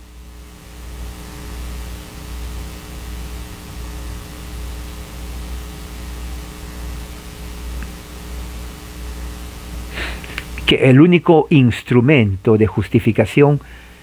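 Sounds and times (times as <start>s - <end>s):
electrical hiss: 0.0s - 14.0s
low mains hum: 0.0s - 14.0s.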